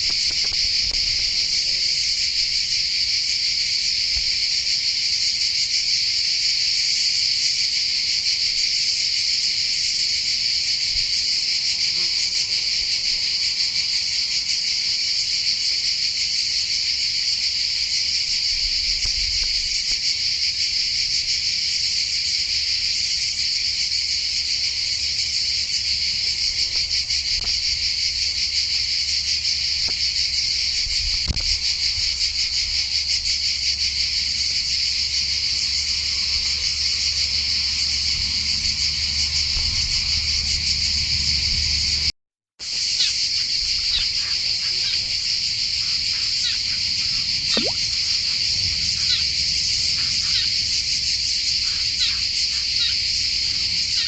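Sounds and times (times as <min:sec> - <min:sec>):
insects buzzing trill: 0:00.0 - 0:54.0.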